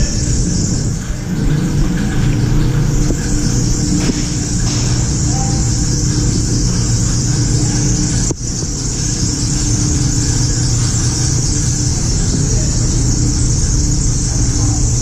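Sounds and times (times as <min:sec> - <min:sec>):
droning hum with hiss: 0:00.0 - 0:15.0.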